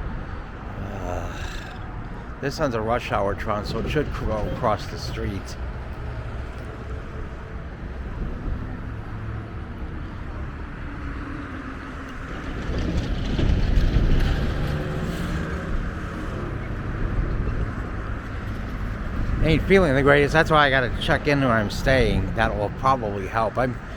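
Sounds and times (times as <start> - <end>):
diesel train engine drone: 0.0 - 23.9.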